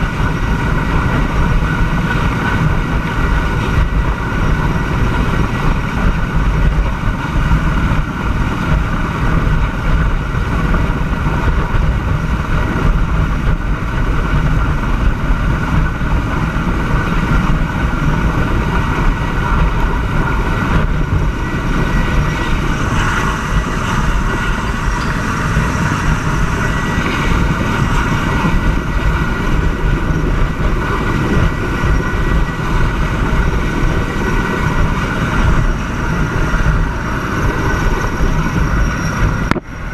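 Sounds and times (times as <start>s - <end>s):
helicopter hovering overhead: 0.0s - 39.9s
wind rumble on microphone: 0.0s - 39.9s.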